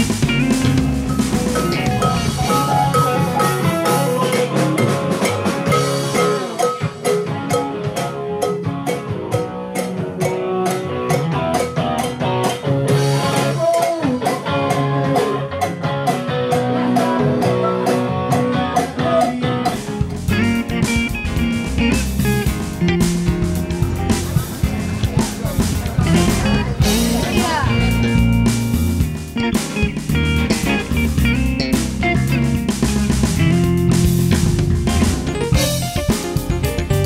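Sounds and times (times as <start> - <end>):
drum kit beat: 0.0 - 37.0
electric guitar: 0.0 - 37.0.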